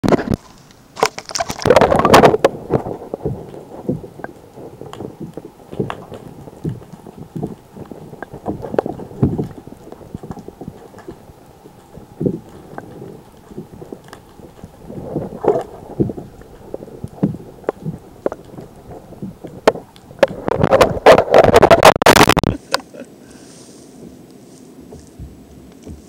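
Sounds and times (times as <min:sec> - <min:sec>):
water splashing against kayak: 0:00.0 - 0:22.7.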